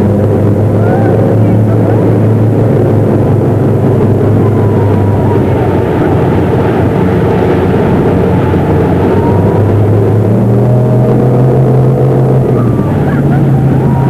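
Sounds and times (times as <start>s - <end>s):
motorboat engine running: 0.0s - 14.0s
rushing wind: 0.0s - 14.0s
water noise: 0.0s - 14.0s.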